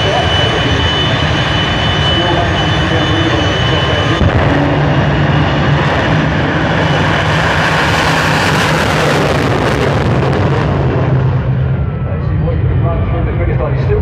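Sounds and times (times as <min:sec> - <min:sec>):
jet engine at full thrust: 0:00.0 - 0:14.0.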